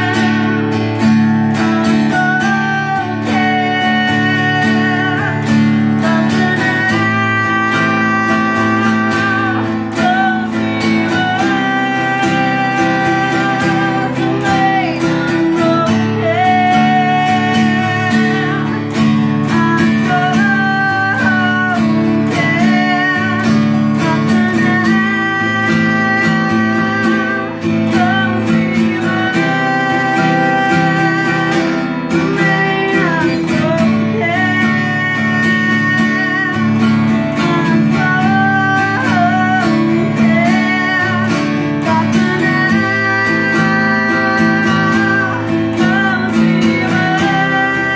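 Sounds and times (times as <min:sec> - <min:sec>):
acoustic guitar strummed: 0:00.0 - 0:47.9
woman singing: 0:00.0 - 0:47.9.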